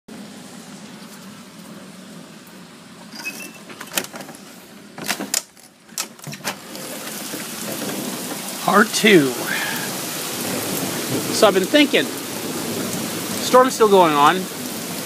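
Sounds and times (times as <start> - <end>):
heavy rain: 0.1 - 15.0.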